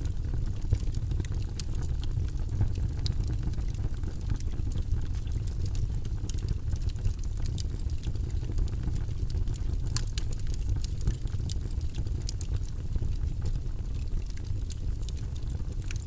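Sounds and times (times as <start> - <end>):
fire crackling and popping: 0.0 - 16.0
fire low rumble: 0.0 - 16.0.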